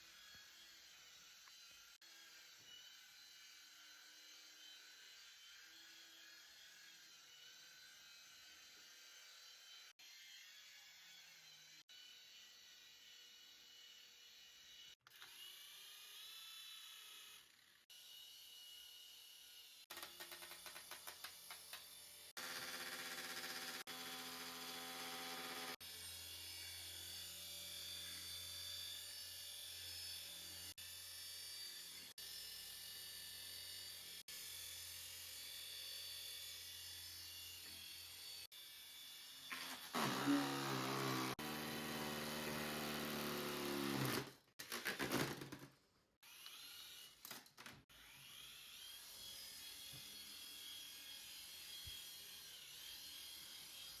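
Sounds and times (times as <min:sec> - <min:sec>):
toy electric motor whirring: 0:00.0 - 0:45.4, 0:46.2 - 0:54.0.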